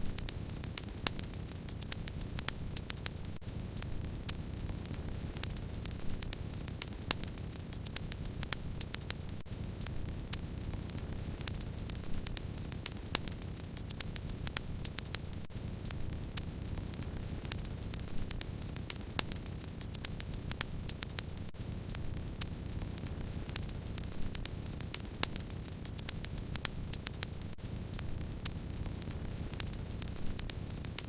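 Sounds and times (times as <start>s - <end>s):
fire crackles and pops: 0.0s - 31.0s
wood fire burning: 0.0s - 31.0s.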